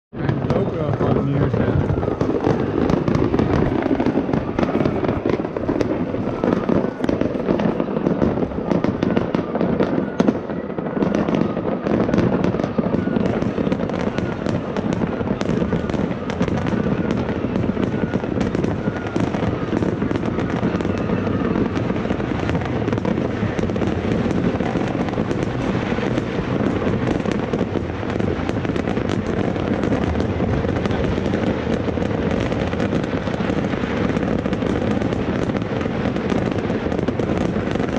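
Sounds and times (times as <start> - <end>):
fireworks and firecrackers crackling: 0.1 - 37.9.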